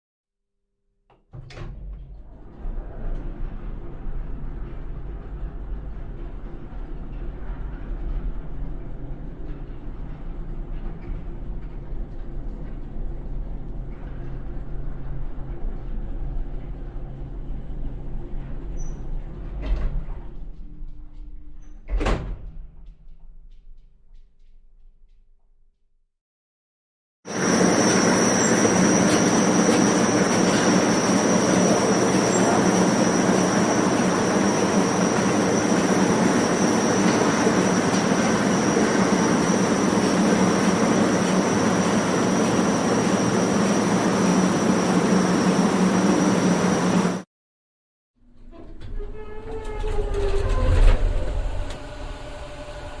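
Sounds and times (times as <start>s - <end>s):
elevator motor rumble and hum: 1.4s - 23.6s, 27.3s - 47.2s, 48.3s - 53.0s.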